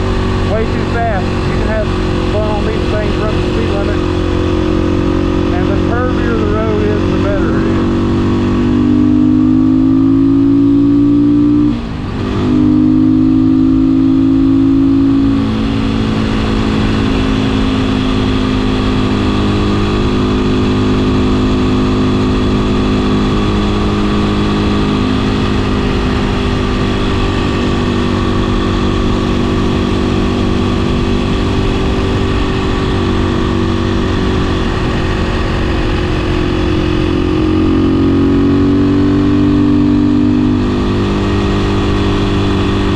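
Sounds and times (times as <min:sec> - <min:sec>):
motorcycle engine under way: 0:00.0 - 0:42.9.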